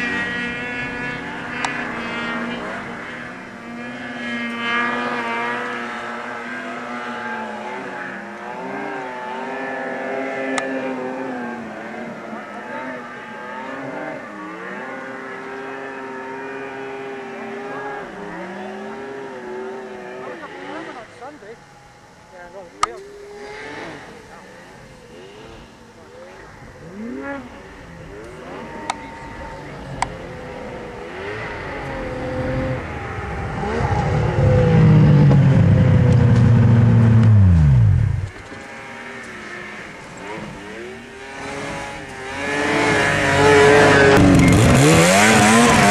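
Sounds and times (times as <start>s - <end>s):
snowmobile engine revving: 0.0s - 45.9s.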